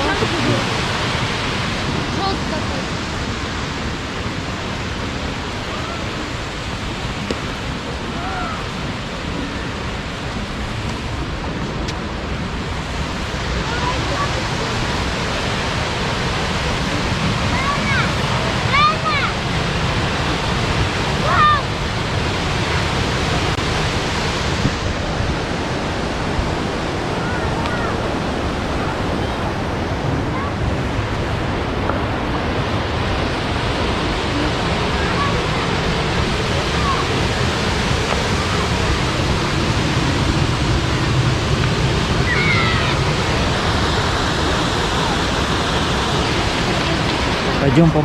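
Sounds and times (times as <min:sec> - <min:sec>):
waterfall roaring: 0:00.0 - 0:48.0.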